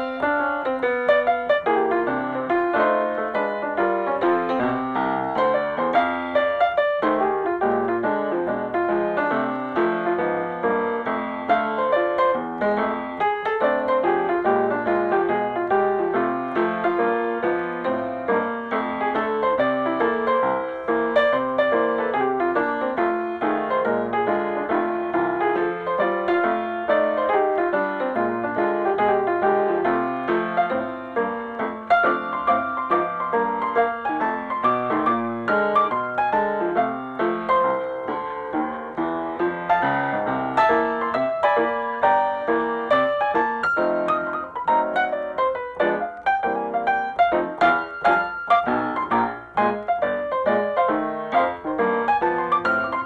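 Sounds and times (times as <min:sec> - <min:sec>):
instrumental piano music: 0:00.0 - 0:53.0.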